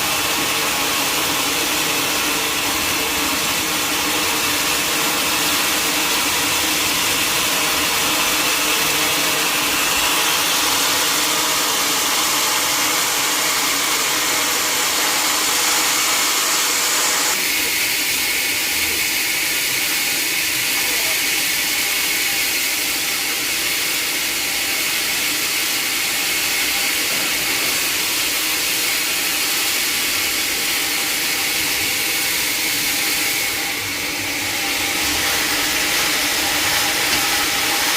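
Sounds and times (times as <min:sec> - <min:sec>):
sawmill machinery hissing: 0:00.0 - 0:37.9.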